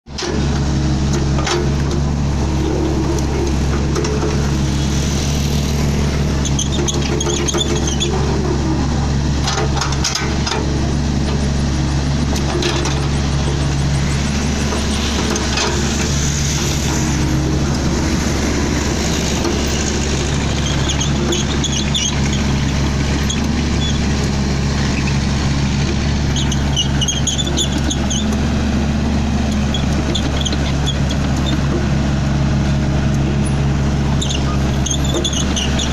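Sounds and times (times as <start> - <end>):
diesel engine running: 0.1 - 35.9.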